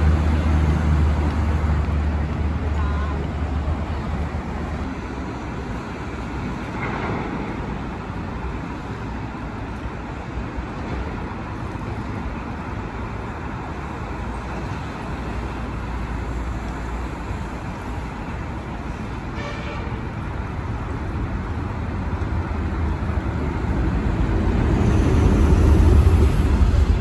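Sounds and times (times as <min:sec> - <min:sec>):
vehicle rumble: 0:00.0 - 0:27.0.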